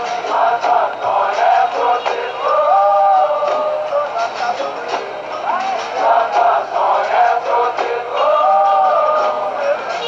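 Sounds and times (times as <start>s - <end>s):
voices singing long notes: 0.0s - 10.0s.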